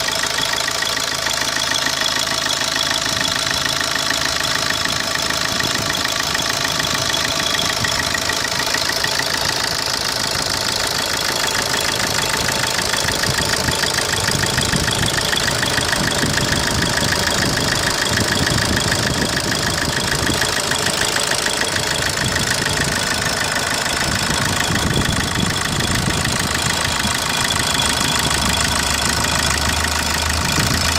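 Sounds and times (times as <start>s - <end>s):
diesel engine idling: 0.0s - 30.9s
fast engine ticking: 0.0s - 30.9s.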